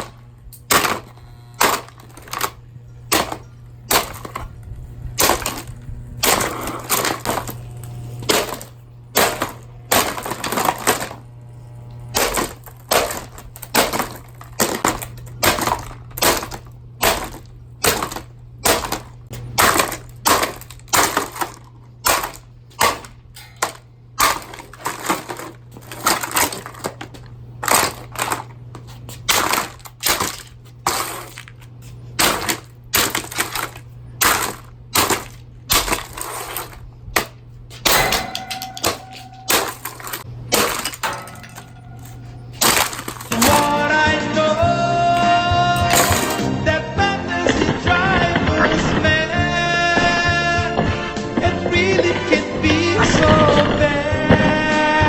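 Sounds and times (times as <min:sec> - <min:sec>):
plastic fan being smashed: 0:00.0 - 0:04.5, 0:05.2 - 0:07.6, 0:08.2 - 0:11.2, 0:12.1 - 0:31.6, 0:32.2 - 0:44.2, 0:45.1 - 0:51.9
steady low hum: 0:00.0 - 0:55.0.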